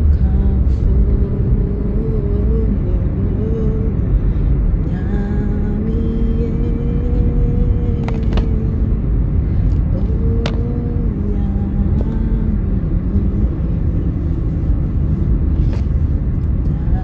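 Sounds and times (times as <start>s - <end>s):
car engine rumble from inside: 0.0s - 17.0s.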